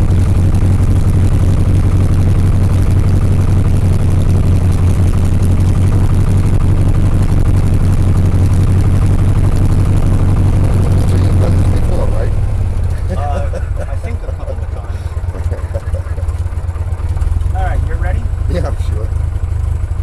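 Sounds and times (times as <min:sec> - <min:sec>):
light aircraft engine droning: 0:00.0 - 0:20.0.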